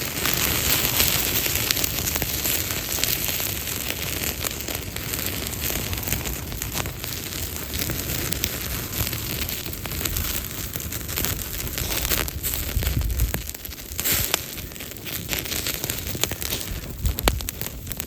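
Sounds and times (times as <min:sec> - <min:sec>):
campfire crackles and pops: 0:00.0 - 0:18.0
fire hiss: 0:00.0 - 0:18.0.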